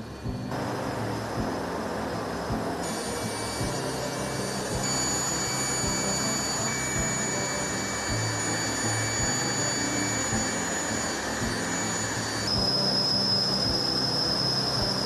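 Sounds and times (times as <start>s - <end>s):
jet turbine engine whine: 0.0s - 15.0s.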